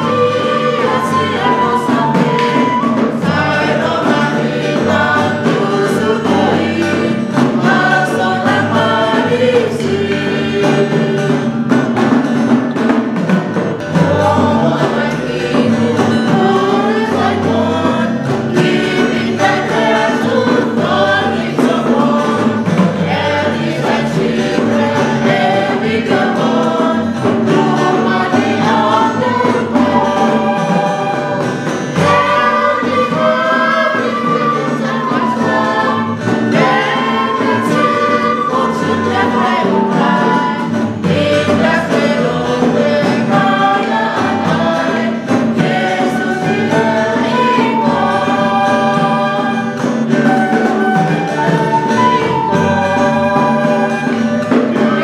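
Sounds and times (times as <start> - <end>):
acoustic guitar: 0.0 - 55.0
choir singing a hymn: 0.0 - 55.0.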